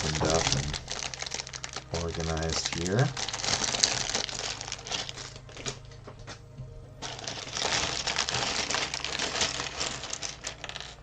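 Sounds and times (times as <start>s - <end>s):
plastic bricks clicking and rattling: 0.0s - 5.8s, 7.0s - 11.0s
plastic bags crinkling: 0.0s - 6.0s, 7.0s - 11.0s.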